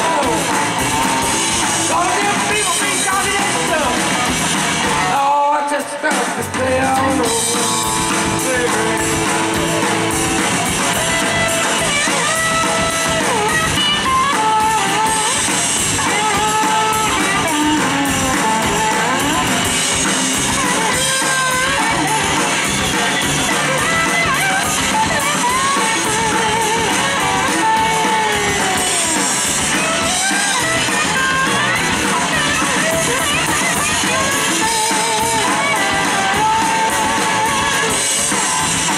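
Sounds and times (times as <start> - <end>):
rock band playing: 0.0 - 38.9
lead guitar bending lines: 7.0 - 38.9.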